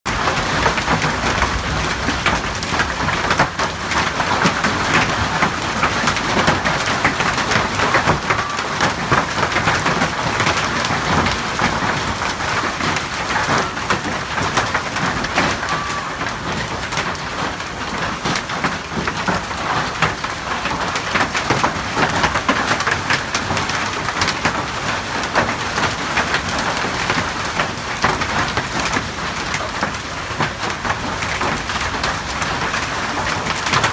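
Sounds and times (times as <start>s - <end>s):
hail and rain pelting down: 0.1s - 33.9s.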